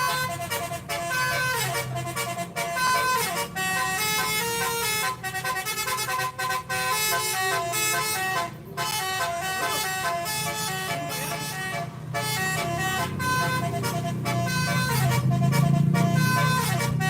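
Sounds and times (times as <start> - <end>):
musical air horns playing melody: 0.0 - 17.0.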